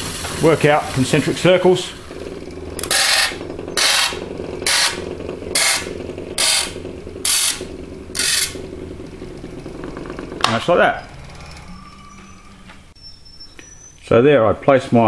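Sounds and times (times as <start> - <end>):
electric fan motor hum: 0.0 - 14.0.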